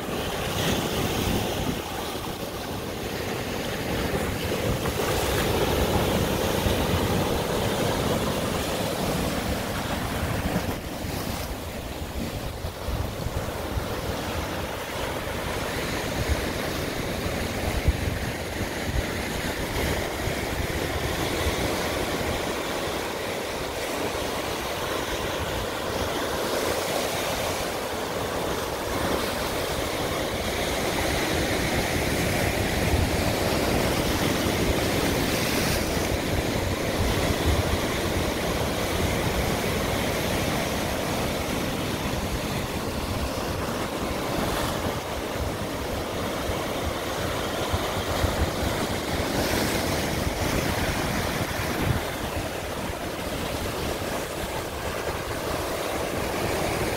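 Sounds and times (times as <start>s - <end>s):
ocean surf on rocks: 0.0s - 56.9s
wind rumble on microphone: 0.0s - 56.9s.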